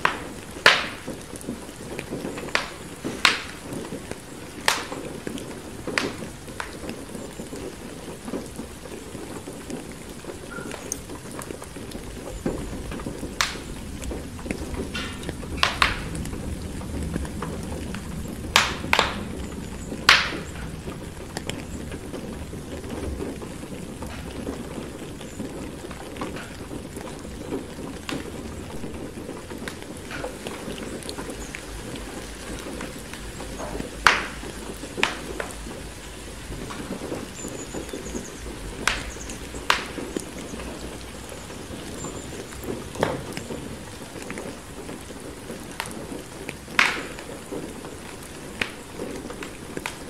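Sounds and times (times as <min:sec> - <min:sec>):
crackling fireplace fire: 0:00.0 - 0:50.0
steady rain: 0:00.0 - 0:50.0.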